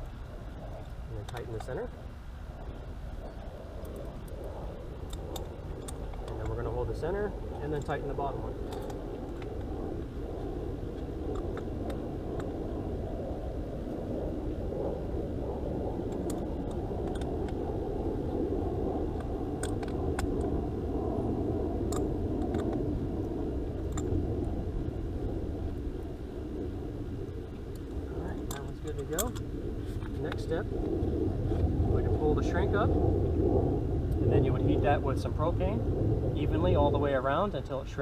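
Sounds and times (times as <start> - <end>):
low outdoor rumble: 0.0 - 38.0.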